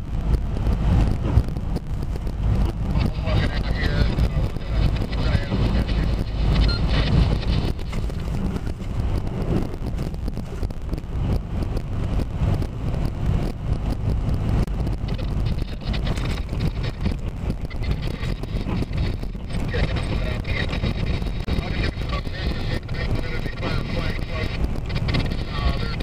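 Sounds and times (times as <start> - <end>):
engine and tyres rumbling in water: 0.0 - 26.0
rain hitting windshield: 0.0 - 26.0
wind noise on microphone: 0.0 - 26.0
windshield wipers sweeping: 0.0 - 26.0.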